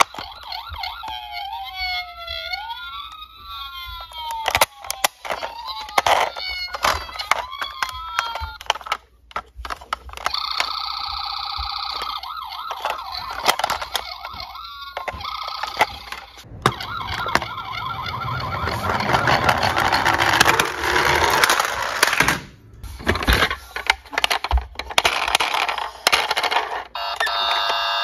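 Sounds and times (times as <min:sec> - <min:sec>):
toy electronic siren: 0:00.0 - 0:09.0, 0:09.6 - 0:22.0, 0:25.1 - 0:28.0
toy wheels rattling on surface: 0:00.0 - 0:28.0.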